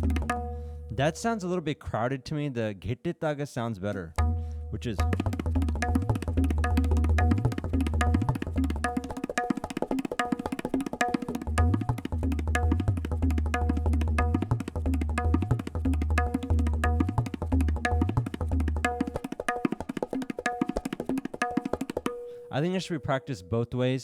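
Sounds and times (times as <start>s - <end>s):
tabla high drum strokes: 0.0s - 1.2s, 4.2s - 22.6s
tabla bass drum strokes: 0.0s - 1.4s, 4.2s - 22.5s.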